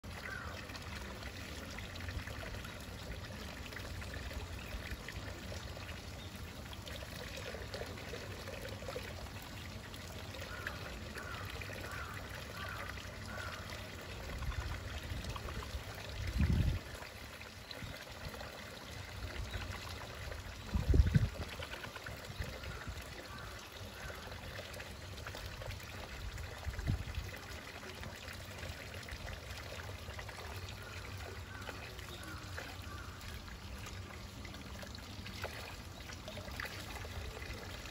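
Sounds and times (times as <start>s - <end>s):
water splashing into pool: 0.0s - 37.9s.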